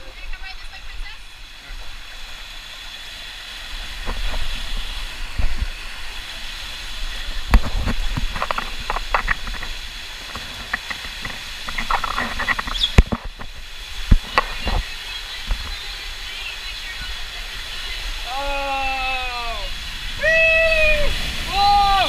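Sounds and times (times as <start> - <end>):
rushing water hiss: 0.0 - 22.0.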